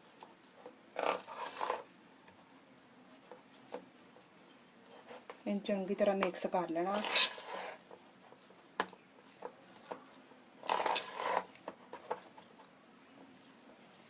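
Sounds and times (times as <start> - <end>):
wet paste mixed by hand: 0.0 - 14.0.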